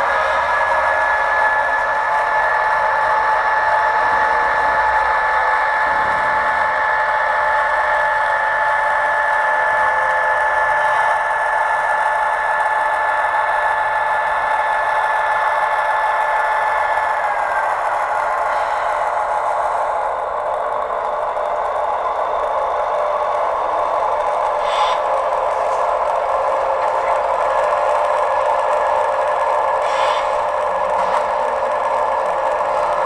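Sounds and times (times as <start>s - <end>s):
model locomotive engine drone: 0.0s - 33.0s.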